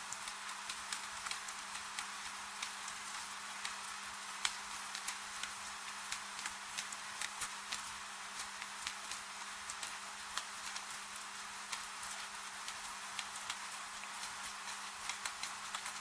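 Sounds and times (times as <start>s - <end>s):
gentle rain with drips: 0.0s - 16.0s.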